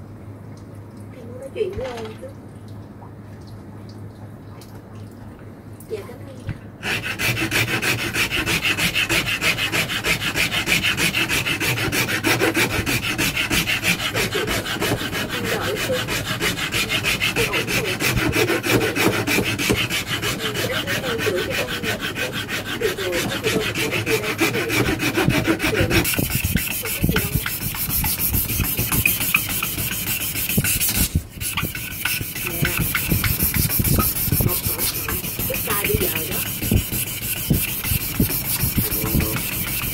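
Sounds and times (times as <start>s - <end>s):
file rasping on wood: 6.8s - 39.9s
abrasive cloth scraping: 6.9s - 39.9s.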